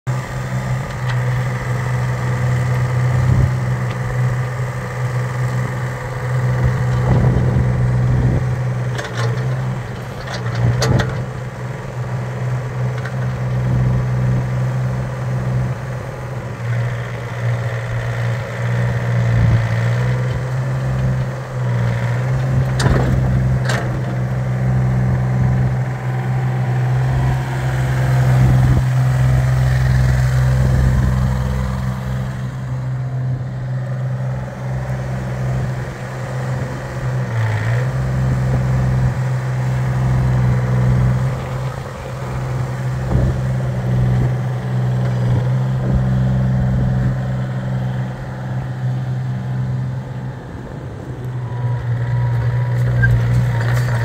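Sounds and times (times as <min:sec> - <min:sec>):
excavator diesel engine running: 0:00.1 - 0:54.0.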